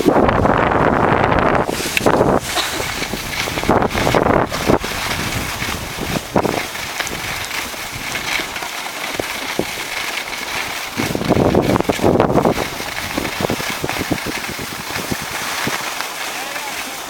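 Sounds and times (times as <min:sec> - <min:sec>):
wind buffeting microphone: 0:00.0 - 0:16.0
skis scraping over packed snow: 0:00.0 - 0:17.0.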